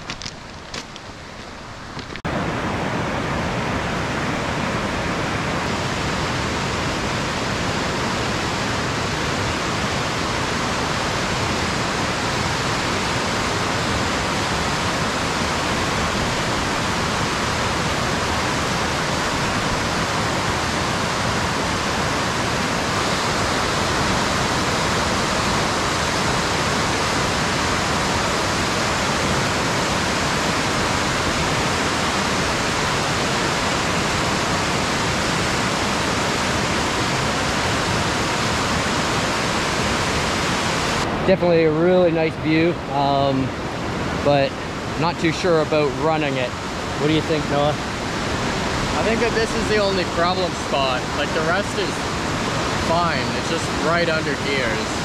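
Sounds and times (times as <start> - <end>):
whitewater rushing over rocks: 0.0 - 55.0.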